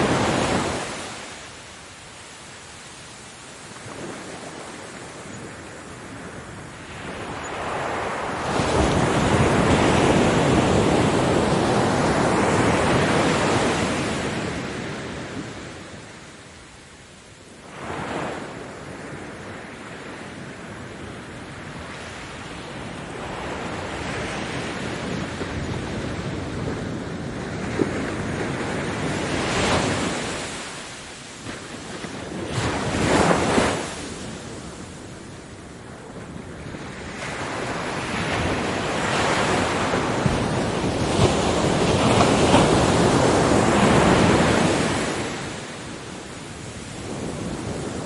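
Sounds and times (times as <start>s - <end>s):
ocean waves breaking on beach: 0.0s - 48.0s.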